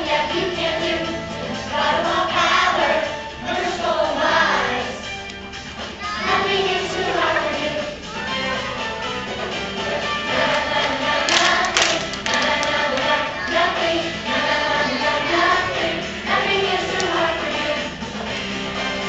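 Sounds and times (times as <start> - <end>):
children's choir singing: 0.0 - 5.1, 6.0 - 19.0
accompanying music: 0.0 - 19.0.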